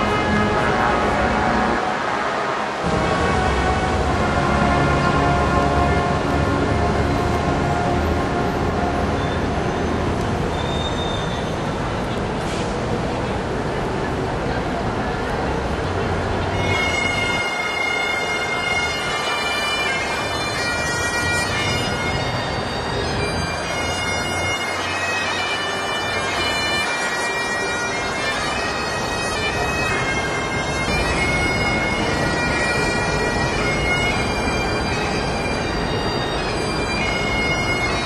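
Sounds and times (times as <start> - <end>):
bagpipes playing: 0.0 - 10.0, 16.4 - 38.0.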